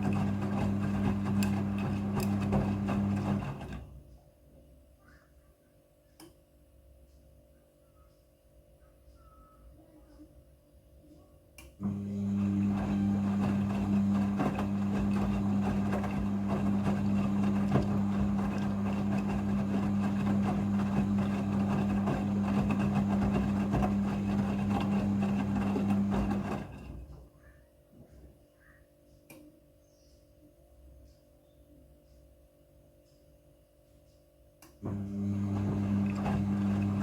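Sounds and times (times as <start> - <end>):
washing machine electrical hum: 0.0 - 37.0.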